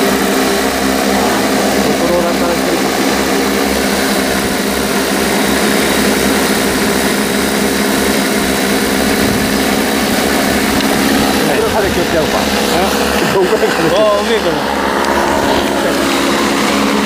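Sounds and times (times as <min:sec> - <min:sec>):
drone propeller hum: 0:00.0 - 0:17.0.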